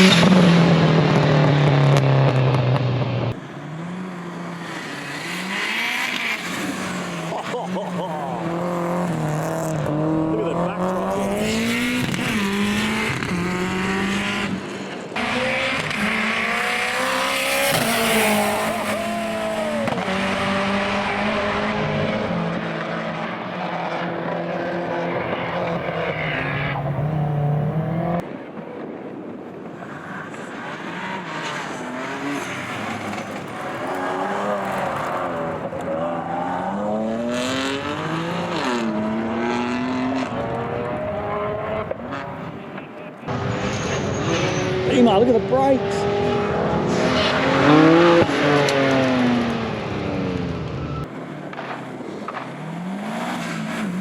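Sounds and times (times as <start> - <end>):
rally car engines revving: 0.0 - 28.3, 29.7 - 54.0.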